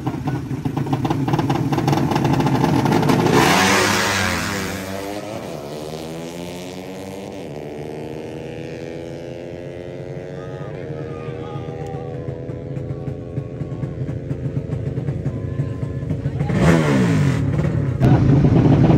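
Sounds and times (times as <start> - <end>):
motorcycles passing close: 0.0 - 18.9
motorcycles revving: 0.0 - 18.9.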